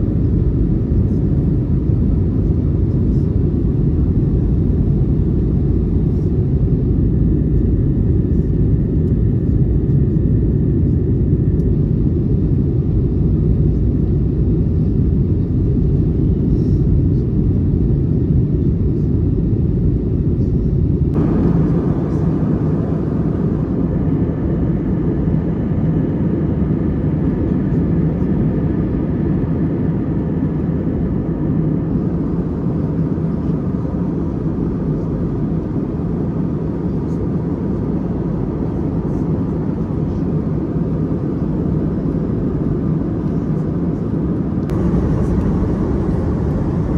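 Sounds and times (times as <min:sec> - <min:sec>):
airplane cabin noise: 0:00.0 - 0:46.9.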